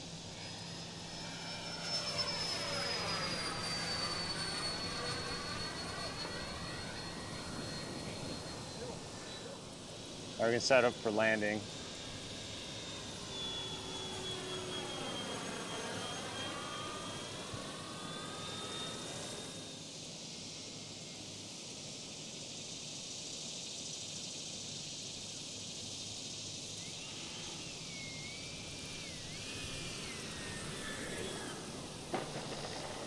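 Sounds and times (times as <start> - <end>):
model jet fan whining: 0.0 - 33.0.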